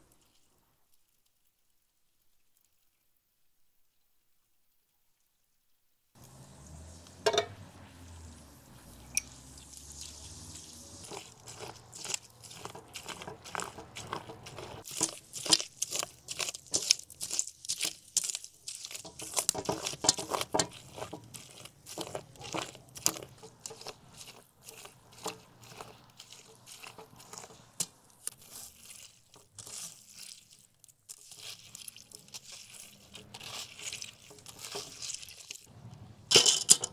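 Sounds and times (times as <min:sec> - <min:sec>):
seeds tumbling into plastic colander: 0:06.2 - 0:36.9
wet crunching of seeds: 0:06.2 - 0:36.9.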